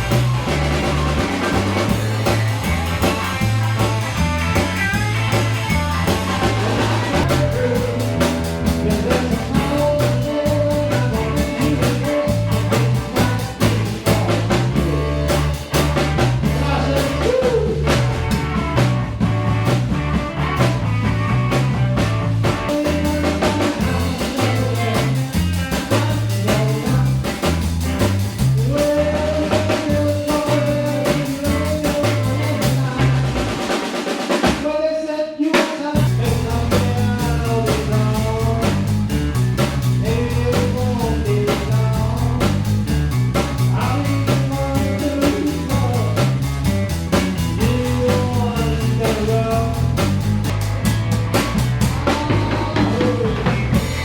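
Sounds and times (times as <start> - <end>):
blues-rock band music: 0.0 - 34.7, 35.5 - 54.0.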